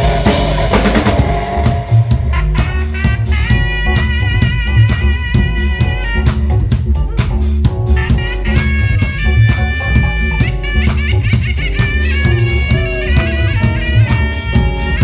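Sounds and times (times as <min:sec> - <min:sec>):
trumpet long notes: 0:00.0 - 0:06.8, 0:07.8 - 0:15.0
bass: 0:00.0 - 0:15.0
drum kit: 0:00.0 - 0:15.0
electric guitar: 0:00.0 - 0:15.0.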